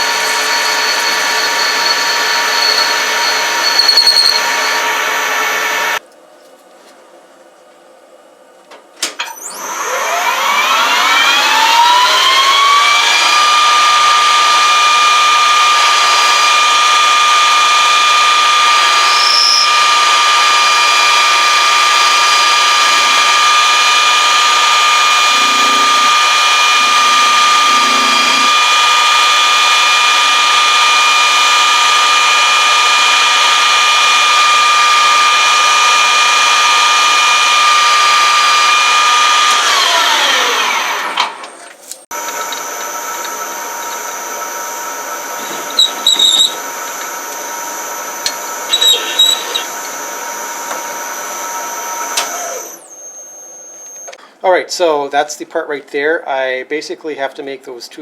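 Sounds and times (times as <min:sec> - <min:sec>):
high-speed electric motor whine: 0:00.0 - 0:06.0, 0:09.4 - 0:41.2, 0:42.1 - 0:54.1.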